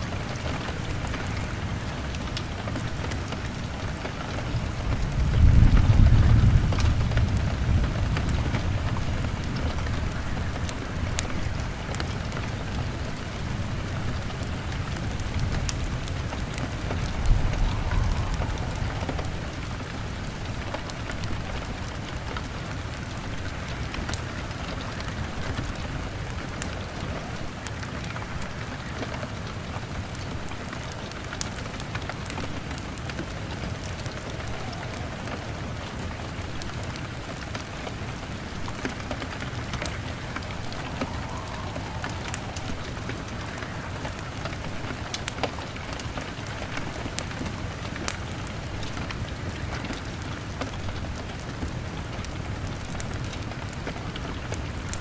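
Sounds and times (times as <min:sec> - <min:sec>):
crackling fire: 0:00.0 - 0:55.0
rain on a window: 0:00.0 - 0:55.0.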